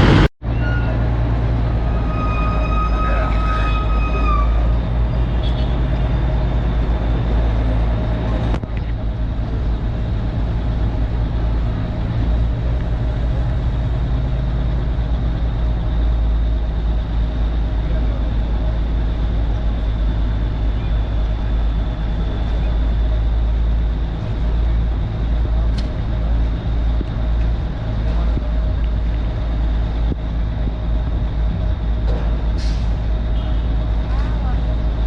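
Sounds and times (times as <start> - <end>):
vehicle engines rumbling: 0.0 - 35.0.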